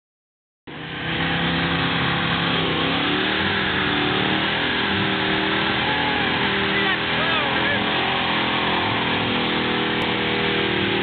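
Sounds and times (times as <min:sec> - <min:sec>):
car engine revving hard: 0:00.7 - 0:11.0.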